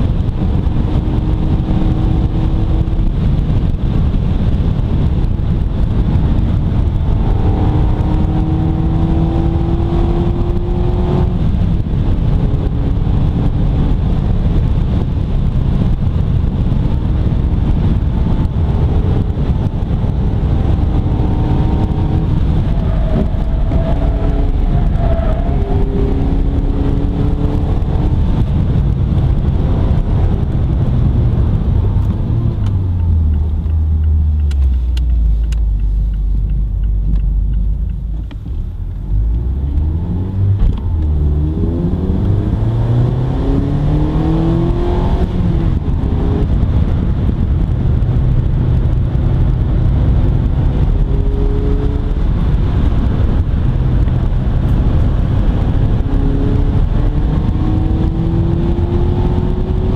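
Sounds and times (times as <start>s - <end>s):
car engine rumbling: 0.0s - 59.9s.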